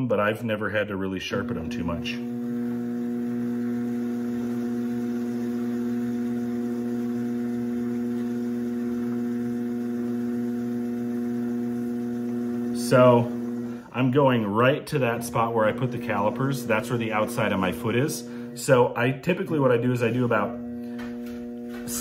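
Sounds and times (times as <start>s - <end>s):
potter's wheel motor hum: 1.0s - 22.0s.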